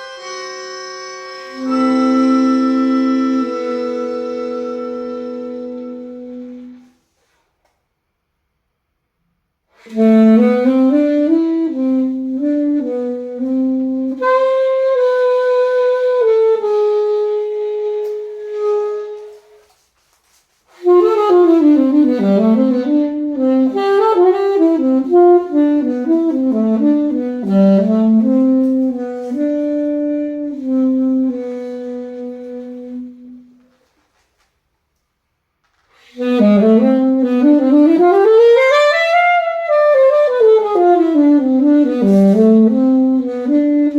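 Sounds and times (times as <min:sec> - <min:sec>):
solo alto saxophone melody: 0:00.0 - 0:07.1, 0:09.7 - 0:19.8, 0:20.7 - 0:33.8, 0:36.0 - 0:43.9.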